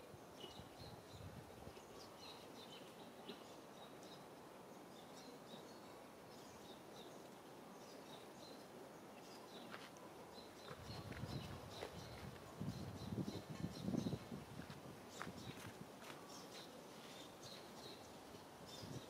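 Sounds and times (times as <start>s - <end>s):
low background hiss: 0.0s - 19.0s
small birds chirping: 0.0s - 19.0s.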